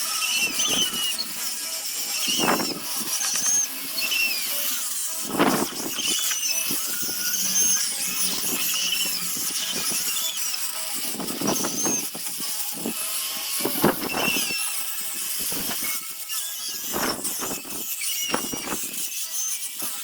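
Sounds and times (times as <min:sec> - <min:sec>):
power sander grinding wood: 0:00.0 - 0:19.2.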